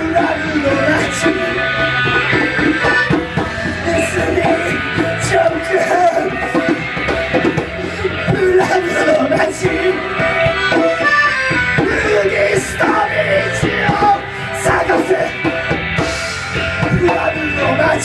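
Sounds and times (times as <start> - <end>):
live band playing: 0.0 - 18.0
reedy lead instrument: 0.0 - 18.0.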